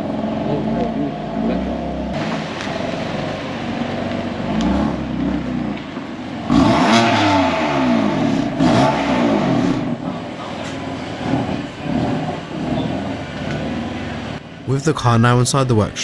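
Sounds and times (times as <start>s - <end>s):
engine revving: 0.0s - 14.4s
car engine running: 0.0s - 14.9s.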